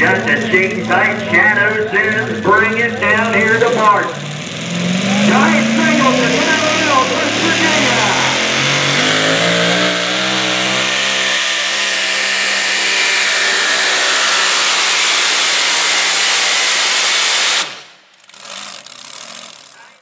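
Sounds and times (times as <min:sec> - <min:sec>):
truck engine running flat out: 0:00.0 - 0:20.0.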